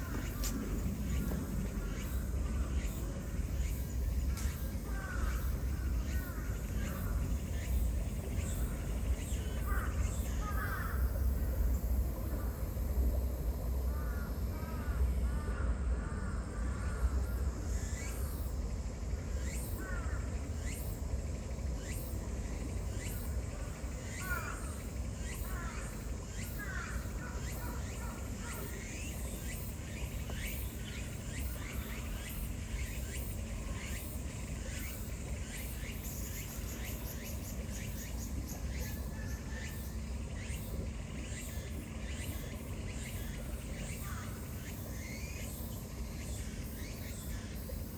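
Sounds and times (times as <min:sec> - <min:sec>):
insects chirping in pulses: 0:00.0 - 0:47.9.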